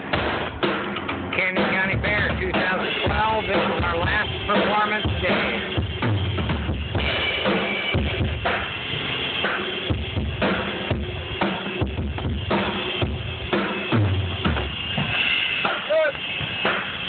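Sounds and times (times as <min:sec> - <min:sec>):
bass drum beat: 0:00.0 - 0:17.0
cymbals: 0:00.0 - 0:17.0
snare drum: 0:00.0 - 0:17.0.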